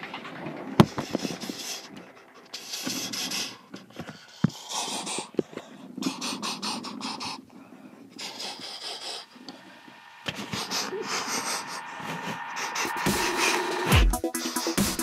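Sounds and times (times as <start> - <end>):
breathy puffs and hisses: 0.8 - 15.0.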